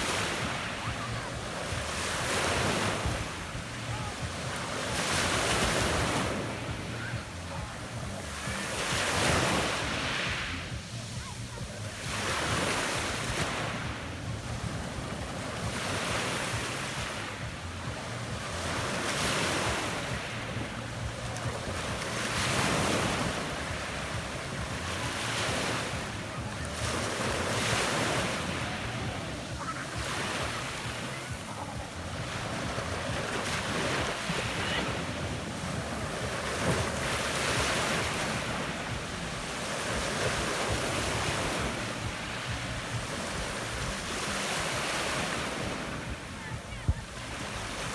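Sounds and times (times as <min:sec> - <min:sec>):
waves washing up pebble beach: 0:00.0 - 0:47.9
wind rumble on microphone: 0:00.0 - 0:47.9.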